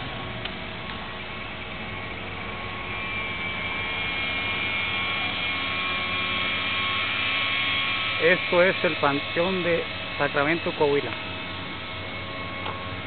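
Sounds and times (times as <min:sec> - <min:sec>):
faint steady whine: 0:00.0 - 0:13.0
vehicle engine running: 0:00.0 - 0:13.0.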